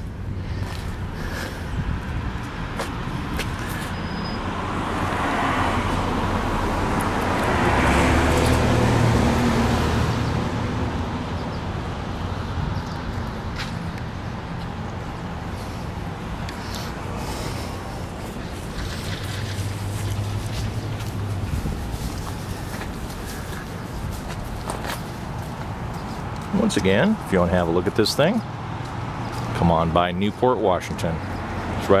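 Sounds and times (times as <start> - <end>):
vehicle passing on highway: 0.0 - 32.0.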